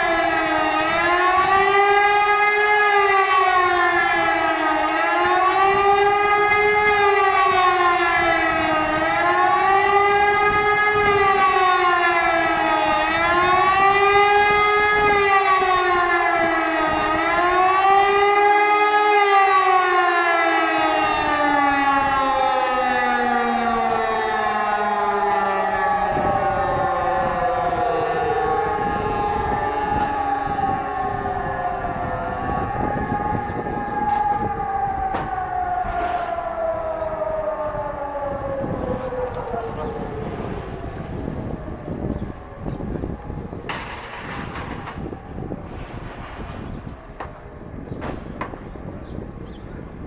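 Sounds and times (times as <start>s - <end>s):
wailing siren: 0.0s - 50.0s.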